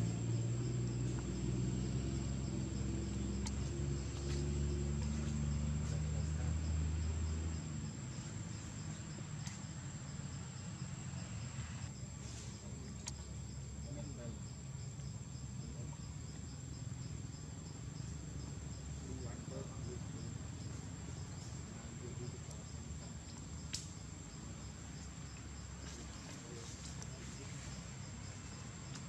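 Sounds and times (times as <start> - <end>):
insects whining: 0.0 - 29.0.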